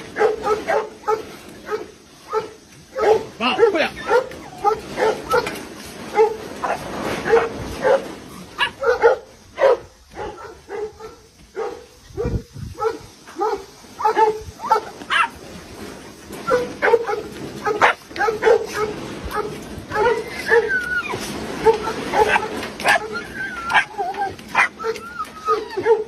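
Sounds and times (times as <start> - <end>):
dogs barking: 0.0 - 15.4, 16.4 - 26.0.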